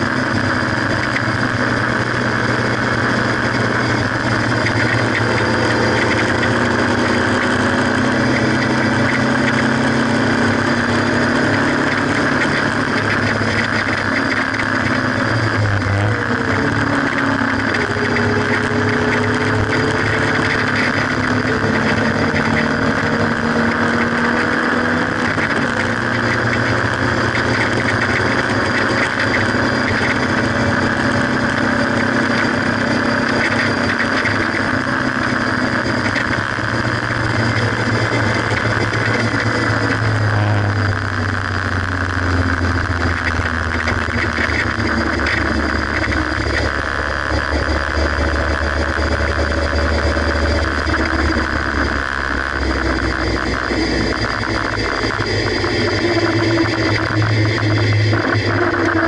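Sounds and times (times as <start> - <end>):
car engine running under load: 0.0 - 59.0
heavy wind noise: 0.0 - 59.0.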